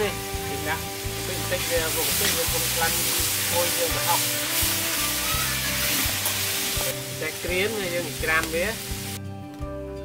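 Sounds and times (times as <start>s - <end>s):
paste sizzling in hot oil: 0.0s - 9.2s.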